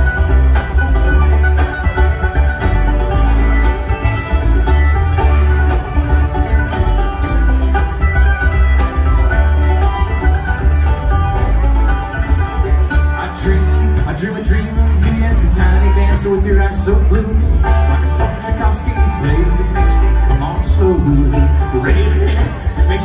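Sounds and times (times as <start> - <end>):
banjo picking: 0.0 - 23.0
mandolin picking: 0.0 - 23.0
upright bass: 0.0 - 23.0.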